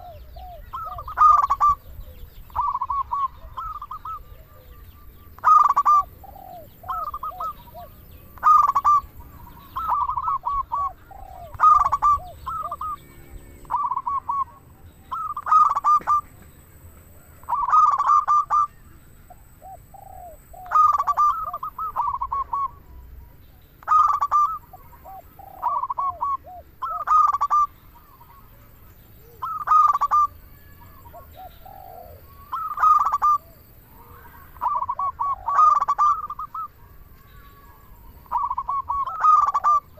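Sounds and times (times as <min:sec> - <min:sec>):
dove cooing: 0:00.0 - 0:23.0, 0:23.8 - 0:39.9.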